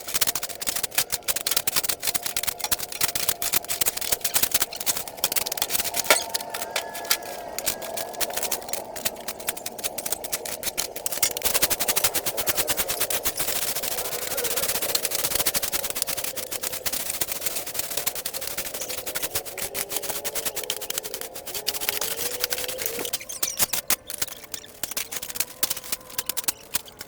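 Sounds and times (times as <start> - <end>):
rapid mechanical clatter: 0.0 - 27.0
steady wavering hum: 0.0 - 27.0.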